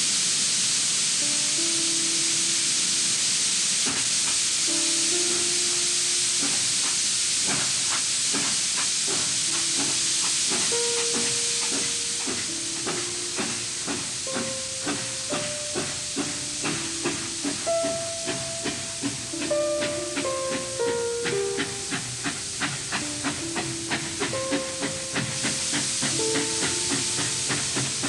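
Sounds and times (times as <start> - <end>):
steam locomotive hissing: 0.0 - 28.0
music of held notes: 0.4 - 28.0.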